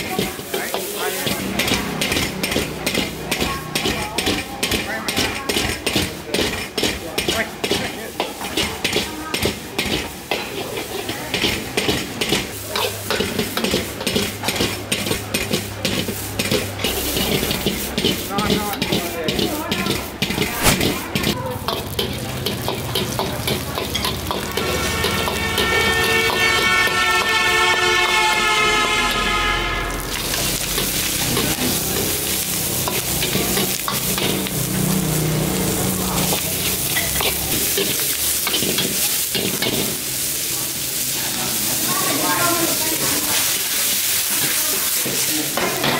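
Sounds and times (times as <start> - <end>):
metal spatula scraping wok: 0.0 - 28.2, 30.0 - 45.9
rice sizzling: 0.0 - 45.9.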